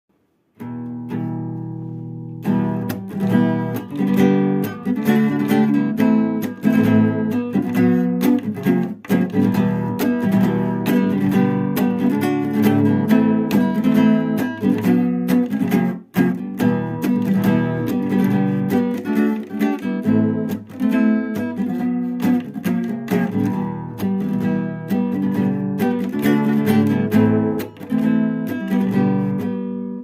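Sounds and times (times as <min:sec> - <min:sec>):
acoustic guitar strumming: 0:00.5 - 0:30.0.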